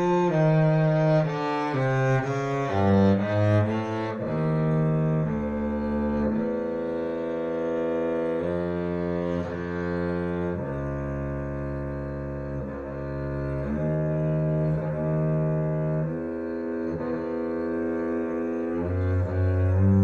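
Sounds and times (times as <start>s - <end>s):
bowed double bass: 0.0s - 20.0s.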